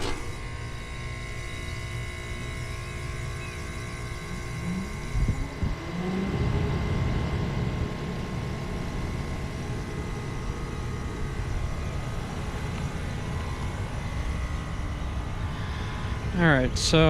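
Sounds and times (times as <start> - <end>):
faint steady whine: 0.0 - 17.0
fan moving air: 0.0 - 17.0
heat pump compressor humming: 0.0 - 17.0.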